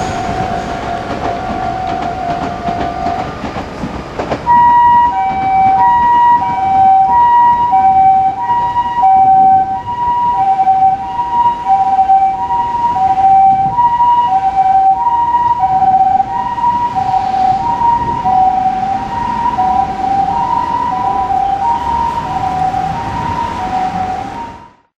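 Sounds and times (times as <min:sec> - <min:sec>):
two-tone ambulance siren: 0:00.0 - 0:24.9.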